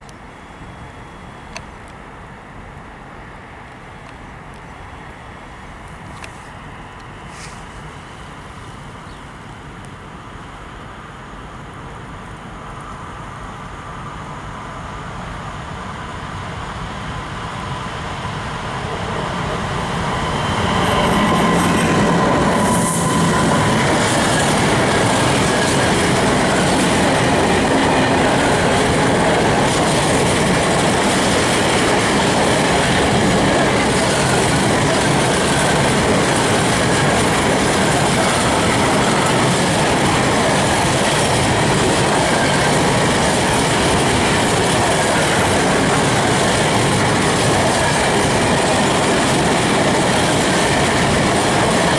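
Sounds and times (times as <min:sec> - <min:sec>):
freight train wheels on rails: 0:00.0 - 0:10.1, 0:10.7 - 0:51.9.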